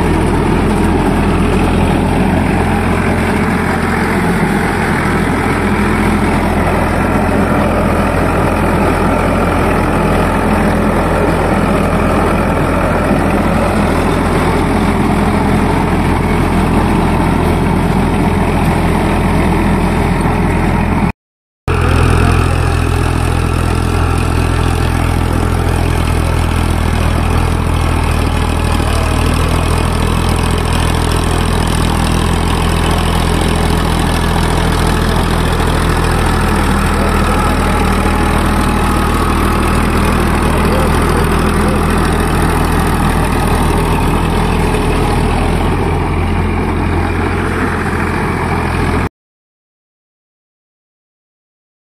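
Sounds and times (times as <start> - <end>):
tractor diesel engine running: 0.0 - 21.1, 21.7 - 49.1.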